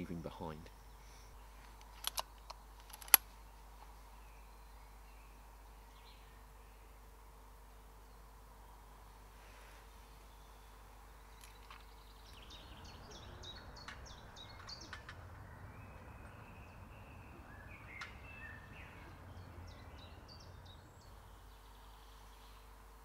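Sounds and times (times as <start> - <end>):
songbird chirping: 0.0 - 9.2, 9.8 - 23.0.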